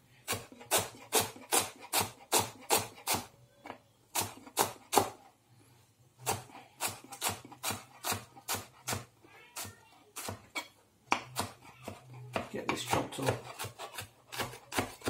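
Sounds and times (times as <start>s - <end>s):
knife chopping on plastic board: 0.3s - 3.3s, 4.2s - 5.2s, 6.2s - 15.0s.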